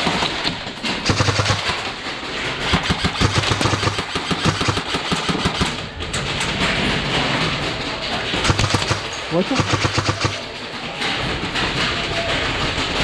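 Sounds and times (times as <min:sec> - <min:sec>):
airsoft guns firing automatic bursts: 0:00.0 - 0:11.9.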